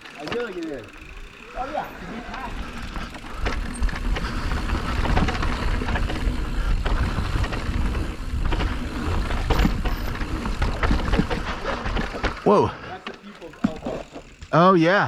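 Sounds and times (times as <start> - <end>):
tyres clattering over dirt trail: 0.0 - 14.6.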